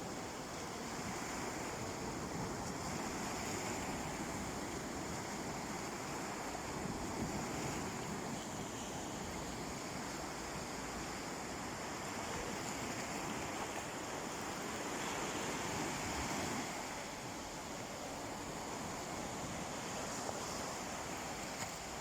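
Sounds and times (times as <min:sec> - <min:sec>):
sea waves washing onto beach: 0:00.0 - 0:22.0.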